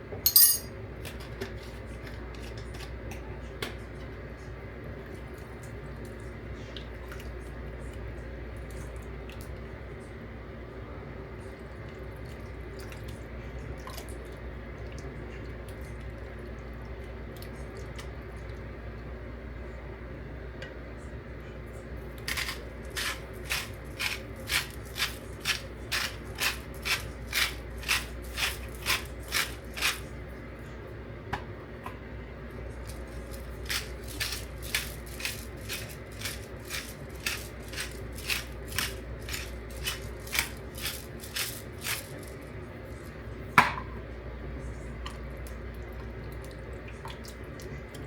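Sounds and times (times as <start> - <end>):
steady low hum: 2.0 - 48.0.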